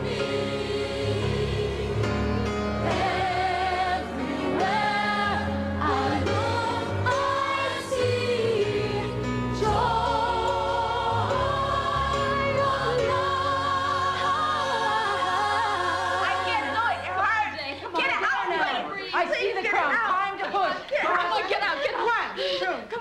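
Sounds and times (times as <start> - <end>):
gospel choir singing: 0.0 - 19.9.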